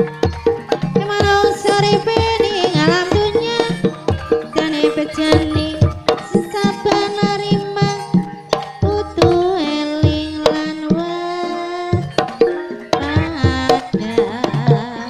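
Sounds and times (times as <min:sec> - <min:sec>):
gamelan melody notes: 0:00.0 - 0:15.0
hand-drum strokes: 0:00.0 - 0:15.0.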